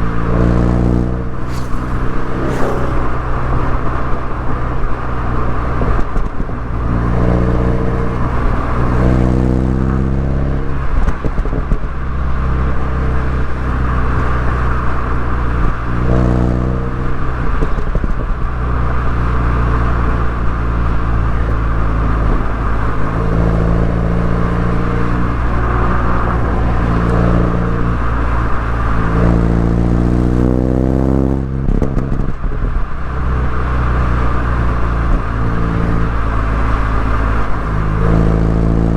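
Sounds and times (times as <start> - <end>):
car engine and exhaust revving: 0.0 - 38.9.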